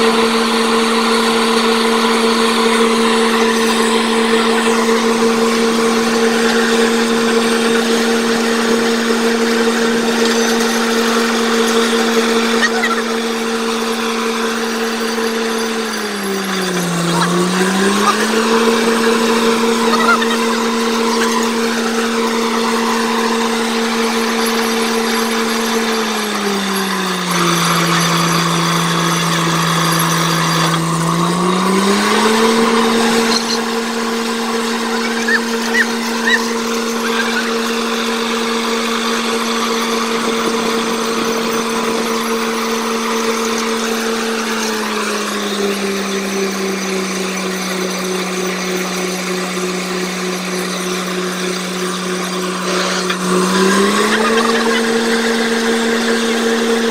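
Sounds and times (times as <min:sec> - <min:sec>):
drilling rig engine hum: 0:00.0 - 0:56.9.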